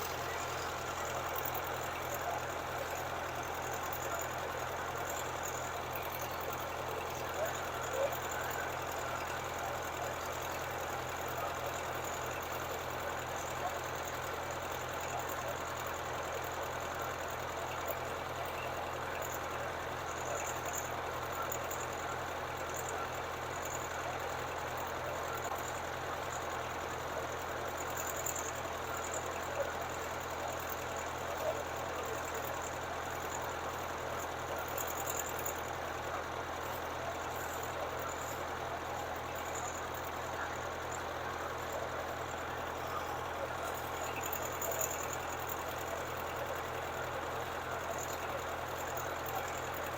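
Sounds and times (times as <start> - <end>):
engine running with low pulsing: 0.0 - 49.9.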